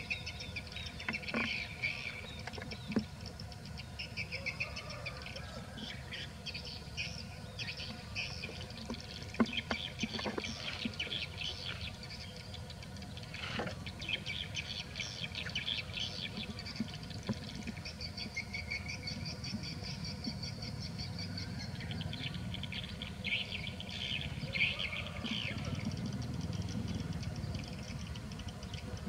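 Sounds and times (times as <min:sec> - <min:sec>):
low outdoor rumble: 0:00.0 - 0:29.0
small birds chirping: 0:00.0 - 0:29.0.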